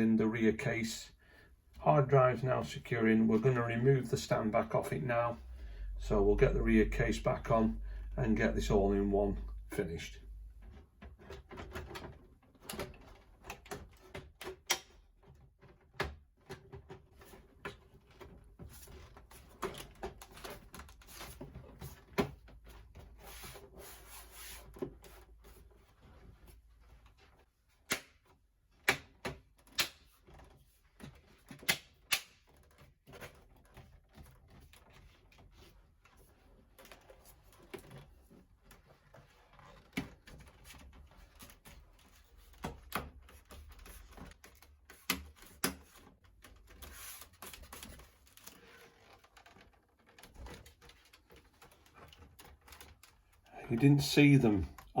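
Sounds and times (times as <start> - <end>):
plastic rubbing: 3.4 - 55.0.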